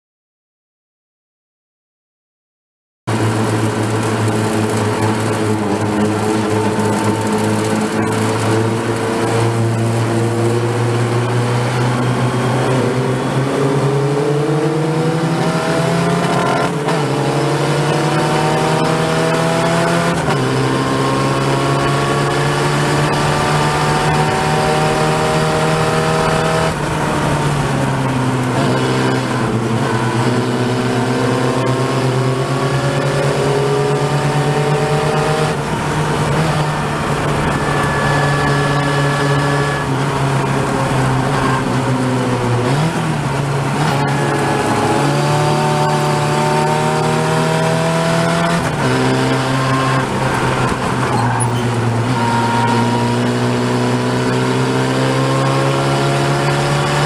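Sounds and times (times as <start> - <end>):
race car engine revving: 3.1 - 57.0.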